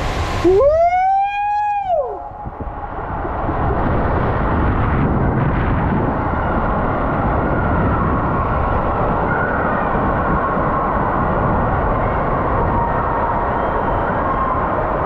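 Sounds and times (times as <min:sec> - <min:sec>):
rushing water and rider sliding: 0:00.0 - 0:12.7.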